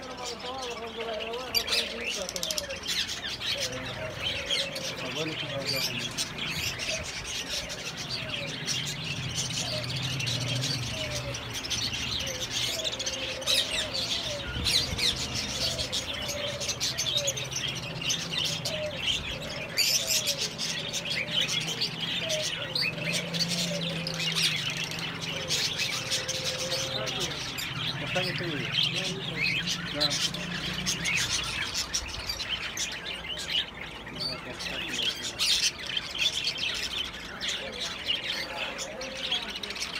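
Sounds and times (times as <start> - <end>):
birds chirping: 0.0 - 39.9
rising and falling bird call: 1.5 - 39.9.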